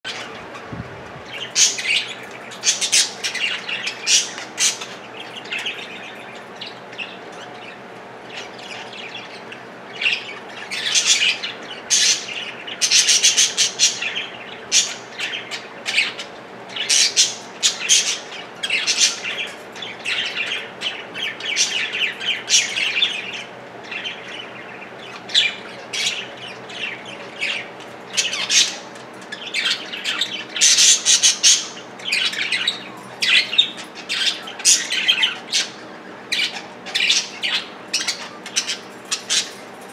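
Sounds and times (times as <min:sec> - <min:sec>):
budgerigars chattering and chirping: 0:00.1 - 0:39.9.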